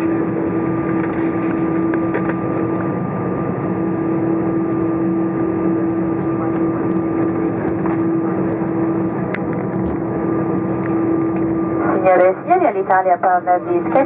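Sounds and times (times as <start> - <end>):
constant low hum: 0.0 - 14.0
jet engine and airflow rush: 0.0 - 14.0.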